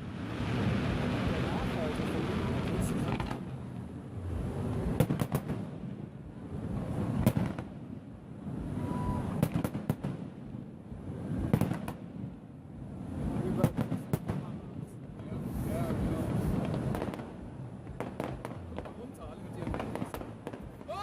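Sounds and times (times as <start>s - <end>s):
fireworks bangs: 0.0s - 3.7s, 4.4s - 21.0s
steady low rumble: 0.0s - 21.0s.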